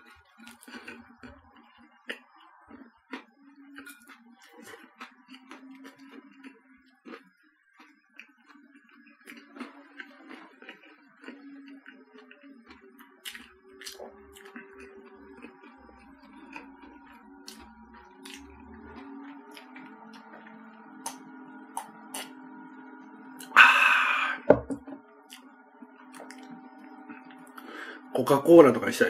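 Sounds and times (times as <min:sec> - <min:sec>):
chewing crusty bread: 0:00.0 - 0:24.4, 0:25.2 - 0:28.4.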